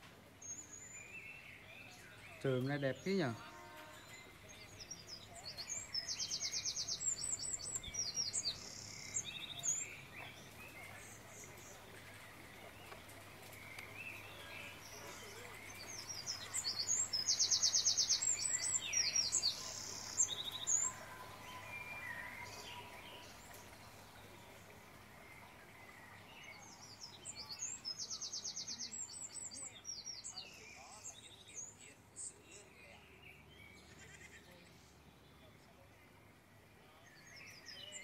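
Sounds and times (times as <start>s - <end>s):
songbird singing with trills: 0.0s - 33.9s, 34.5s - 38.0s.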